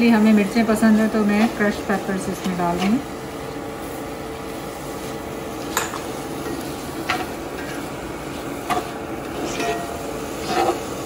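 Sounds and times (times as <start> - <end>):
beef sizzling in a pan: 0.0 - 11.0.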